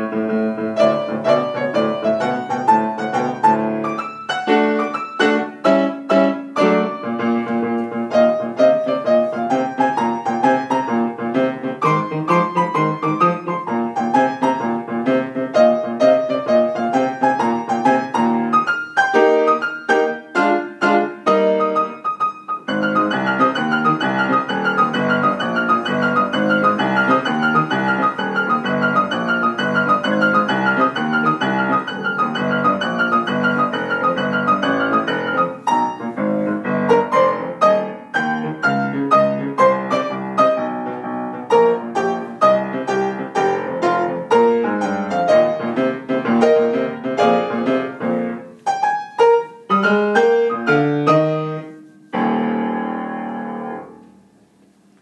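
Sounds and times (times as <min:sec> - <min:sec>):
upright piano boogie: 0:00.0 - 0:55.0.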